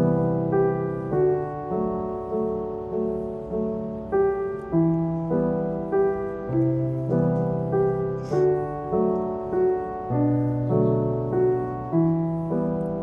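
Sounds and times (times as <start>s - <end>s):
gentle solo piano music: 0.0s - 13.0s.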